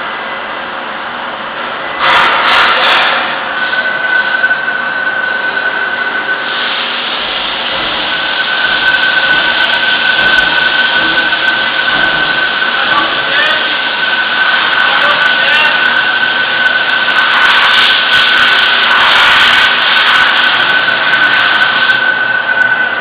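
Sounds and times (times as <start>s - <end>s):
machine cutting with high whine: 2.0s - 23.0s.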